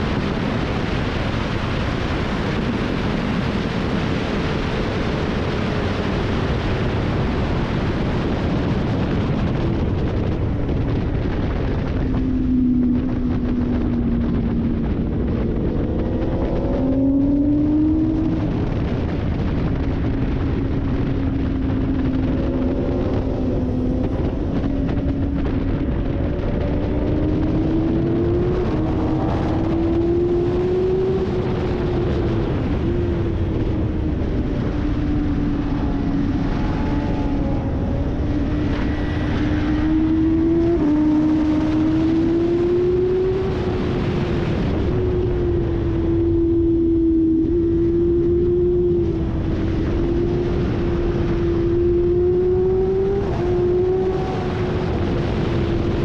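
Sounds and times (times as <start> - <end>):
heavy wind rush: 0.0 - 56.0
motorcycle engine accelerating: 0.0 - 56.0.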